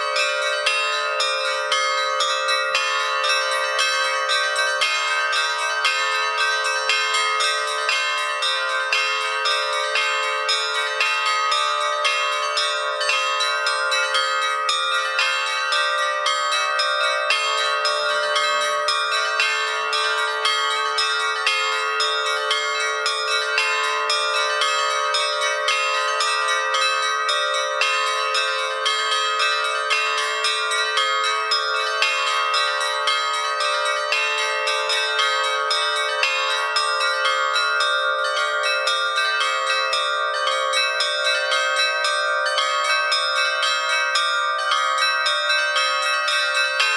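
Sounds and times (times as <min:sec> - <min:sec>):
bells ringing: 0:00.0 - 0:46.9.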